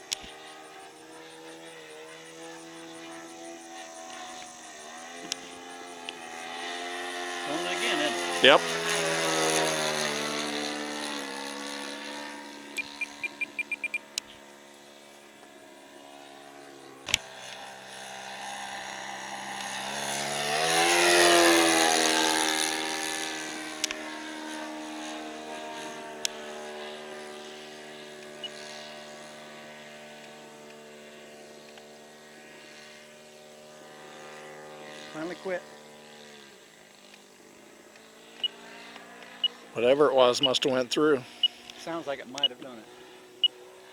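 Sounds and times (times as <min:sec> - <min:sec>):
model airplane motor whining: 0:00.0 - 0:43.9.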